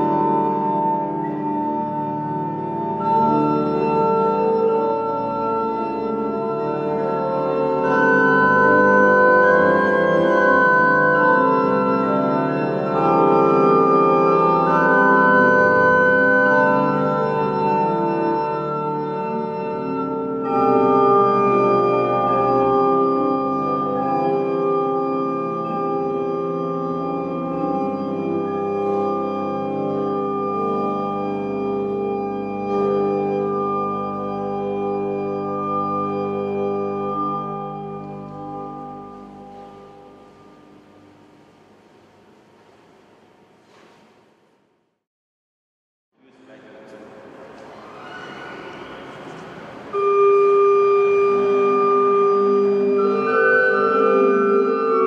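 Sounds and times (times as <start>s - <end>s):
pipe organ sustained chords: 0.0s - 43.7s, 48.5s - 55.0s.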